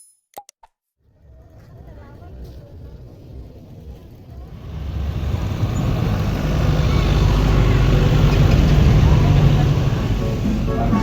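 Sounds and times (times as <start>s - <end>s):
vehicle rumble: 1.0s - 11.0s.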